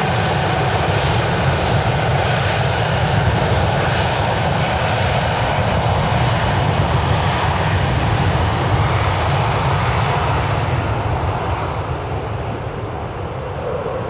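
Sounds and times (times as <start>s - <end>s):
jet engines at takeoff: 0.0s - 14.0s.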